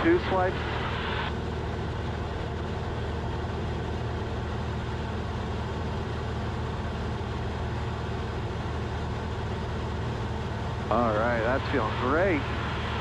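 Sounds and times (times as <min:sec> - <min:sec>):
small plane engine droning: 0:00.0 - 0:13.0.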